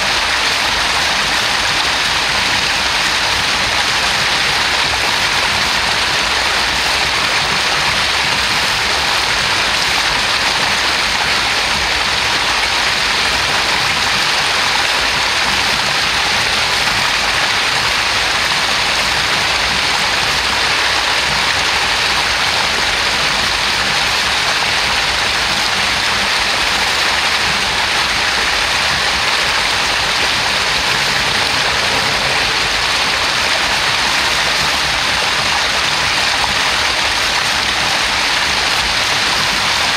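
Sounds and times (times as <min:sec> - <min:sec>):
stream splashing over rock: 0:00.0 - 0:39.9.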